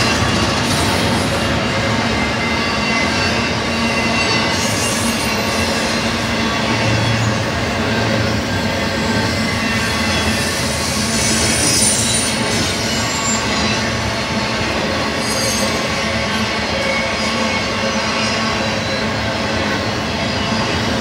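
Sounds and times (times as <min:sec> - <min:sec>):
freight train wheels rumbling: 0:00.0 - 0:21.0
high wheel squeals: 0:00.0 - 0:21.0.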